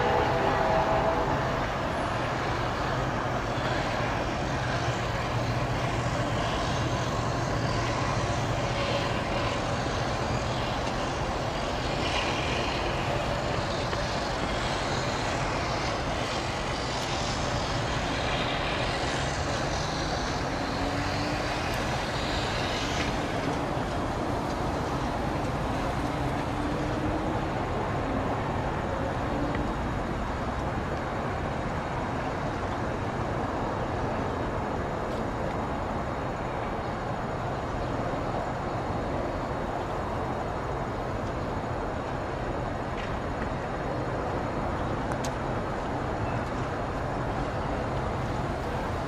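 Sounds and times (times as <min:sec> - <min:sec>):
heavy vehicle rumble: 0:00.0 - 0:49.0.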